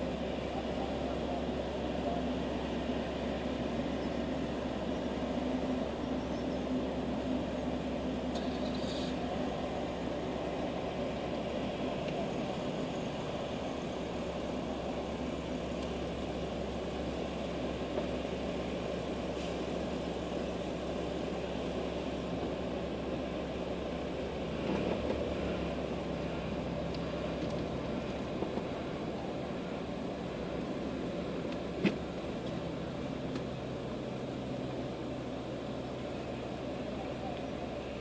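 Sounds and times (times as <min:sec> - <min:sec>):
car engine and cabin hum: 0:00.0 - 0:38.0.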